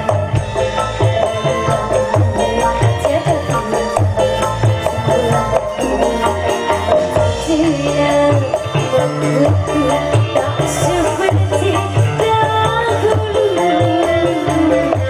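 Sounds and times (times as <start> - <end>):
drums: 0.0 - 15.0
electric bass: 0.0 - 15.0
guitars: 0.0 - 15.0
keyboard: 0.0 - 15.0
woman singing: 0.0 - 15.0.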